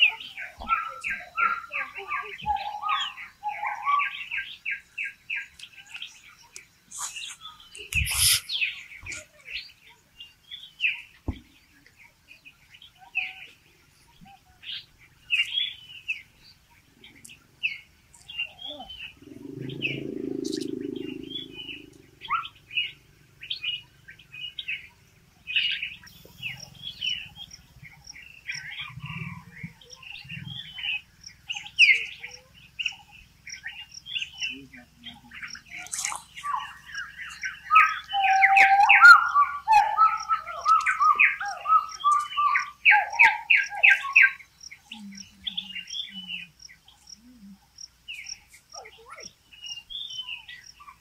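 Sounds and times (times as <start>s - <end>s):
birds chirping and calling: 0.0s - 51.0s.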